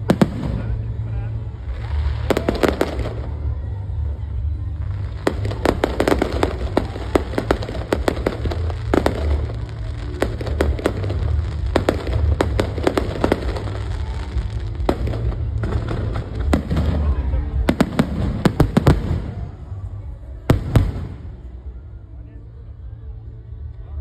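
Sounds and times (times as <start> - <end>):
fireworks bangs and crackles: 0.0 - 21.7
low rumble: 0.0 - 24.0.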